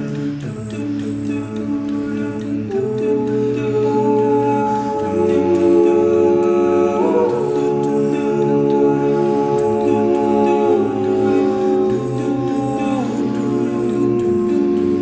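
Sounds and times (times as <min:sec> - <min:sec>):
male choir singing in harmony: 0:00.0 - 0:15.0.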